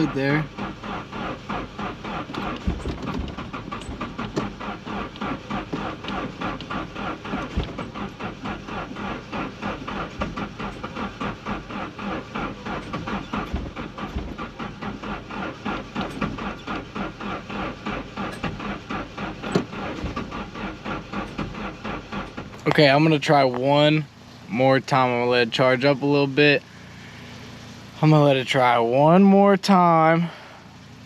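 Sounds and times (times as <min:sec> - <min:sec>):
car engine cranking without starting: 0:00.0 - 0:31.0.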